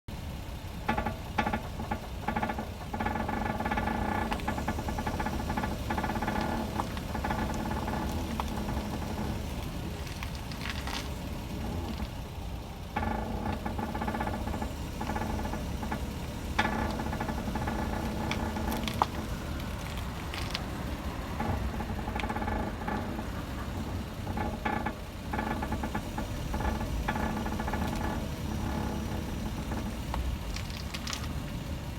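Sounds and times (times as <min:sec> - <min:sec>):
car idling: 0:00.1 - 0:31.9
suspension knocks and clicks: 0:00.6 - 0:31.9.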